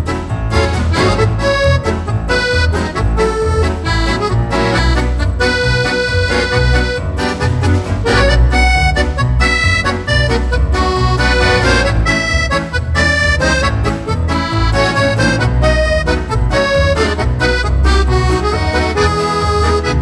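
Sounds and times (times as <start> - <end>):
instrumental music with bass beat: 0.0 - 20.0.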